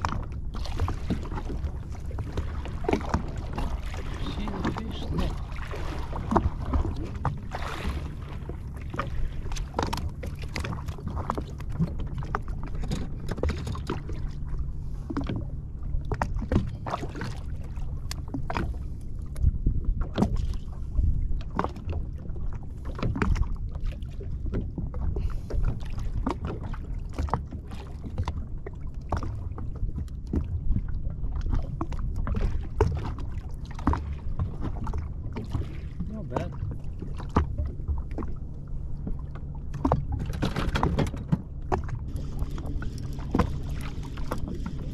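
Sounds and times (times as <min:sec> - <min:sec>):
knocks and splashes: 0:00.0 - 0:44.9
low rumble: 0:00.0 - 0:44.9
water lapping against hull: 0:00.0 - 0:44.9.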